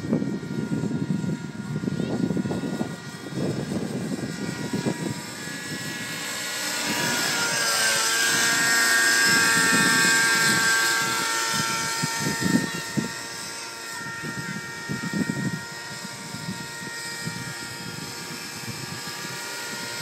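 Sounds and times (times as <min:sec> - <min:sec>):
model helicopter engine whining: 0:00.0 - 0:20.0.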